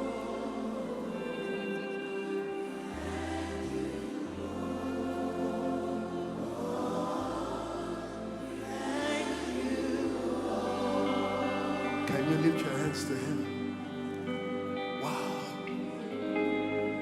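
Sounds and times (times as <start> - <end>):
sustained keyboard chords: 0.0 - 17.0
voices singing long notes: 0.0 - 17.0.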